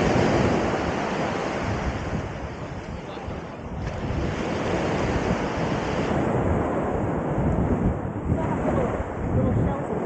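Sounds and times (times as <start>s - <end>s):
waves on open water: 0.0s - 10.0s
wind on microphone: 0.0s - 10.0s.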